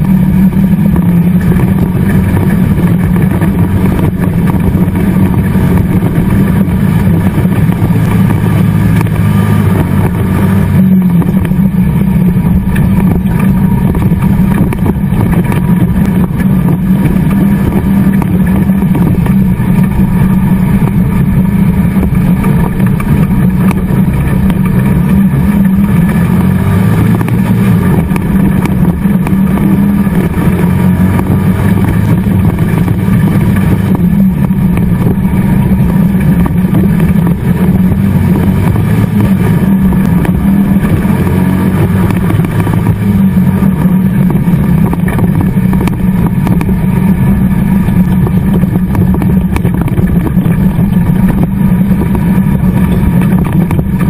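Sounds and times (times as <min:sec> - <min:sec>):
race car engine revving high: 0:00.0 - 0:54.0.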